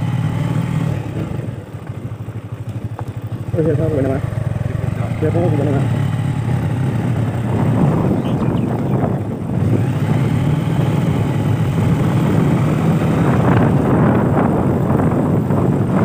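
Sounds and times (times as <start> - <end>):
motorbike engine running: 0.0 - 16.0
wind buffeting microphone: 0.0 - 16.0.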